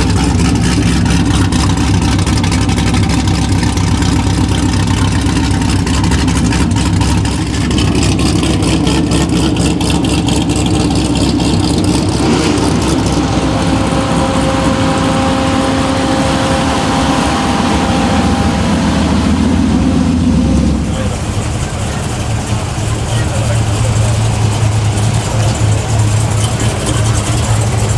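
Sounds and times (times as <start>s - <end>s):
car engine running at low revs: 0.0s - 27.9s.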